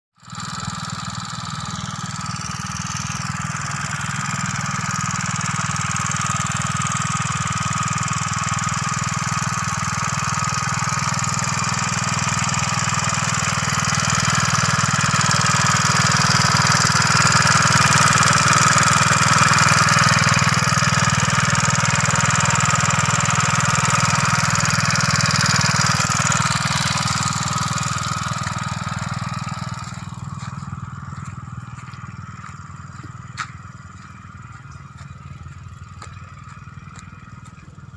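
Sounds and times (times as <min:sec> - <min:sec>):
motorcycle engine running under load: 0:00.2 - 0:37.9.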